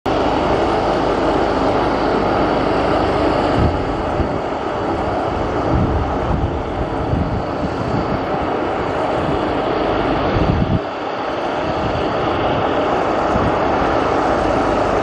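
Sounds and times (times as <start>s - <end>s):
jet engines: 0.1s - 15.0s.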